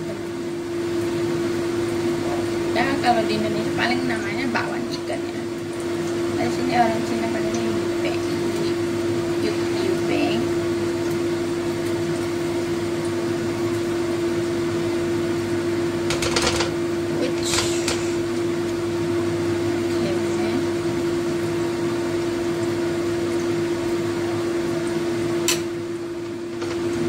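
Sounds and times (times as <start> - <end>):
patties sizzling in oil: 0.0 - 27.0
steady machine hum: 0.0 - 27.0.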